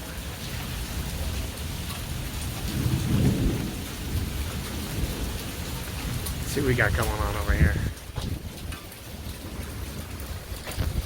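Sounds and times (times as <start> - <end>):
low rumble of thunder: 0.0 - 11.0
steady rain falling: 0.0 - 11.0.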